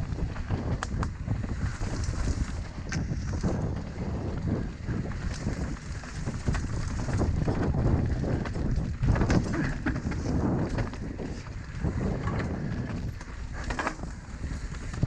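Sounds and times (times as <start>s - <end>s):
bike clattering over bumps: 0.0s - 15.0s
wind buffeting microphone: 0.0s - 15.0s.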